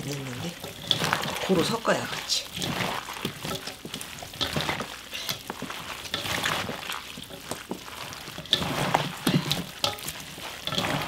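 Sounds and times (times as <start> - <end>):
wet leaves squelching and rustling: 0.0 - 11.0.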